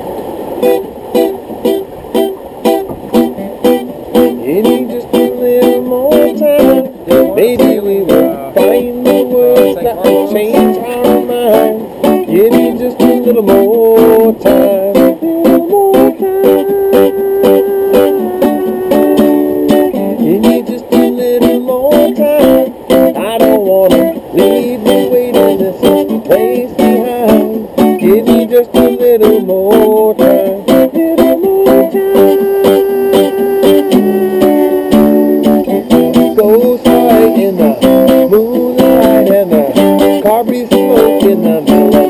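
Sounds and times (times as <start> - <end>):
guitar picking a melody: 0.0 - 42.0.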